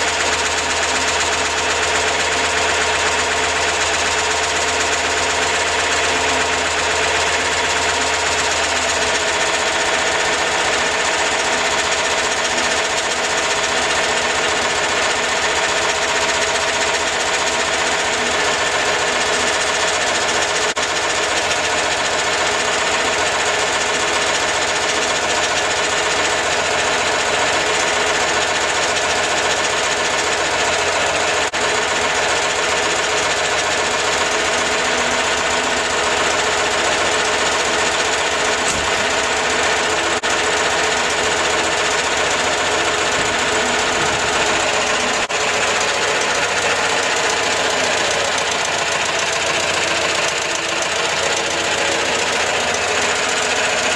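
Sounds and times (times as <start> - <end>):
car engine running steadily: 0.0 - 53.9.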